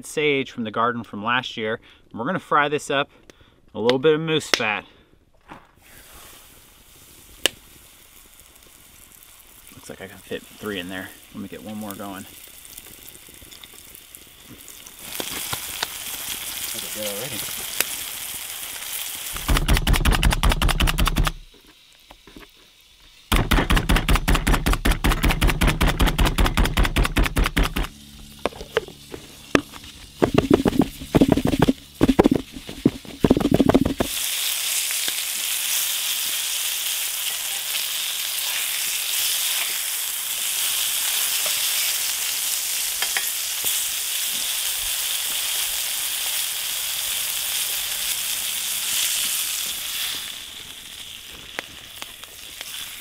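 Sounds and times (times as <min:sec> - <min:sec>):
meat sizzling in a skillet: 0:05.8 - 0:25.8, 0:27.2 - 0:53.0.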